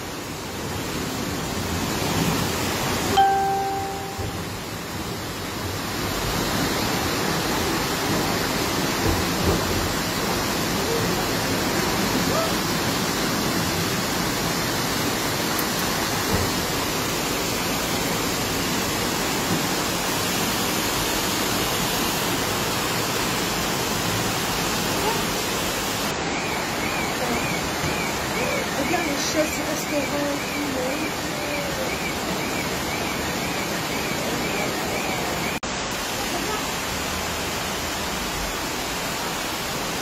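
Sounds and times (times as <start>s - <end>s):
floodwater rushing through street: 0.0s - 40.0s
heavy rain: 0.0s - 40.0s.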